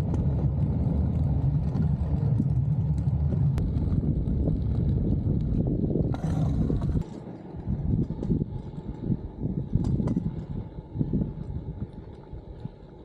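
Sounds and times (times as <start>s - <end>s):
scooter engine rumble: 0.0s - 13.0s.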